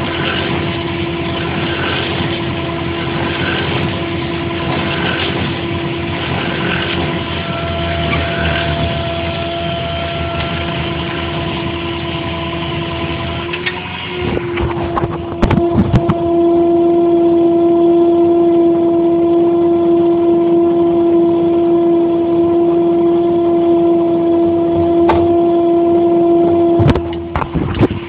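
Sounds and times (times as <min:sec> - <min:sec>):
truck engine humming: 0:00.0 - 0:28.0.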